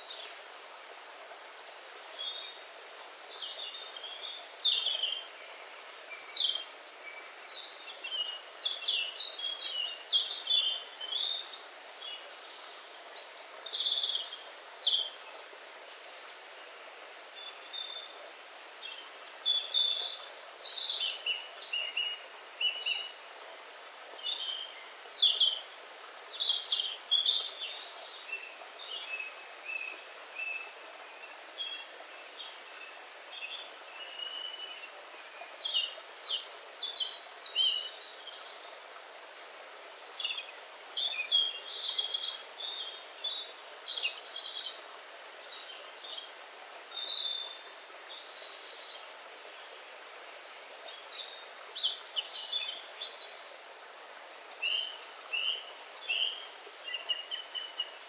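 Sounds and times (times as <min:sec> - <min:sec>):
stream rushing: 0:00.0 - 0:58.0
songbirds twittering: 0:01.6 - 0:39.1, 0:39.9 - 0:58.0.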